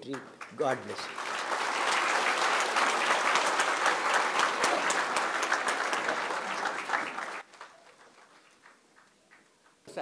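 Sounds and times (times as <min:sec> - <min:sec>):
audience applause: 0:00.0 - 0:09.1.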